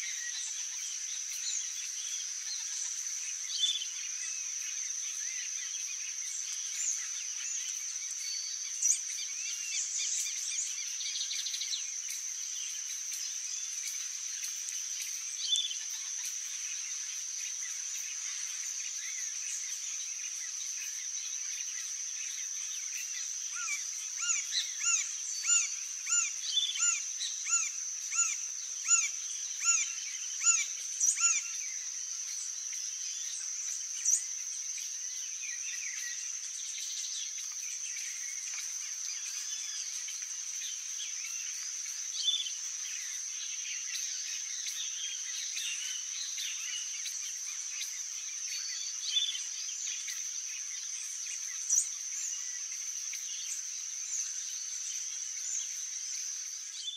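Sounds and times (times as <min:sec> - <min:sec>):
faint bird chirps: 0:00.0 - 0:56.9
high-pitched insect drone: 0:00.0 - 0:56.9.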